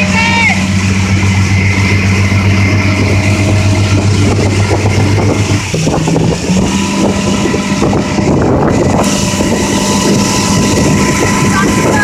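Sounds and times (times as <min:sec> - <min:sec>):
churning wake water: 0:00.0 - 0:12.0
motorboat engine running: 0:00.0 - 0:12.0
wind on microphone: 0:00.0 - 0:12.0.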